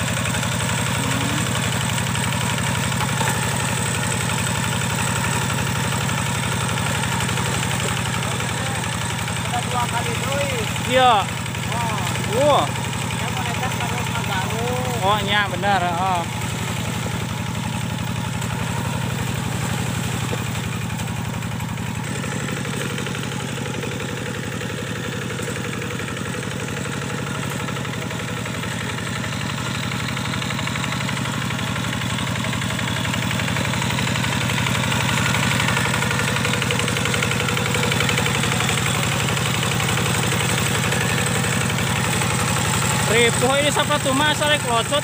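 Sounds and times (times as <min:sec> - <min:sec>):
diesel tractor engine running: 0:00.0 - 0:45.0.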